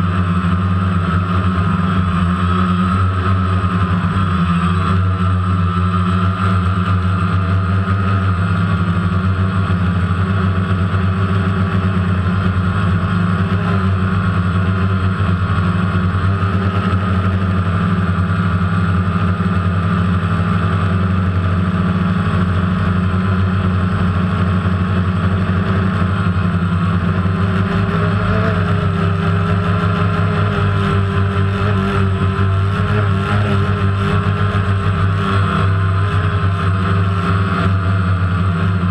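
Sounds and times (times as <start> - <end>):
quadcopter propellers droning: 0.0 - 38.9.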